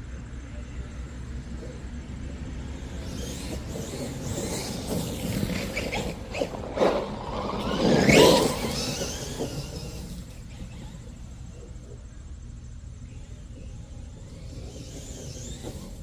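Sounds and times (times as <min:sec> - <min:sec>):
tyres on the ground: 0:00.0 - 0:16.0
electric motor whine: 0:00.6 - 0:16.0.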